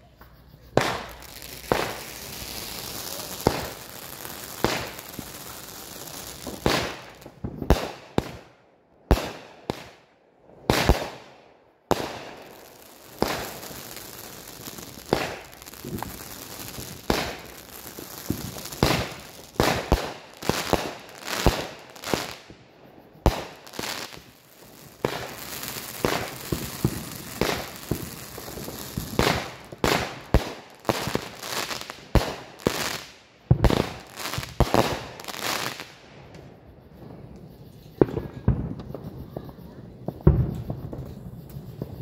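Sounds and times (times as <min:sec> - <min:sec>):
fireworks crackling: 0:00.0 - 0:42.0
fireworks bangs: 0:00.4 - 0:42.0.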